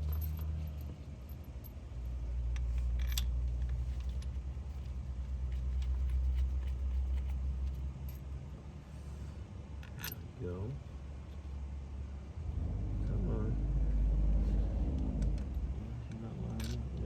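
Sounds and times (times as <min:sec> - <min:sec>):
low uneven rumble: 0:00.0 - 0:17.0.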